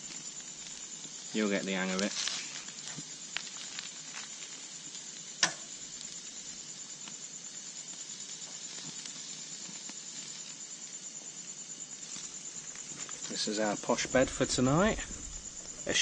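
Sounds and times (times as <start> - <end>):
charcoal barbecue sizzling: 0.0 - 16.0
insects trilling: 0.0 - 16.0.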